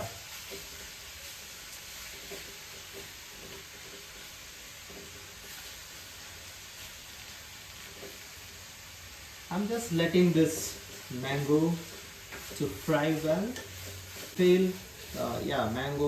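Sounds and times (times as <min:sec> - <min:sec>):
mango sizzling in oil: 0:00.0 - 0:16.0.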